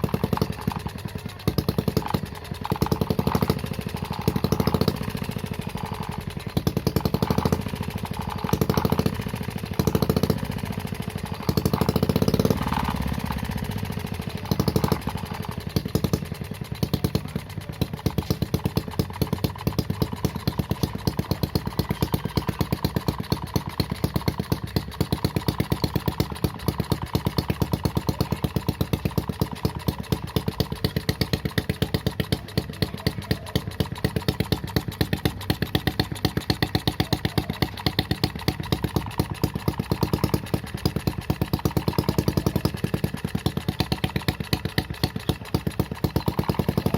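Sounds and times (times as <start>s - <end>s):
small engine revving and idling: 0.0s - 46.9s.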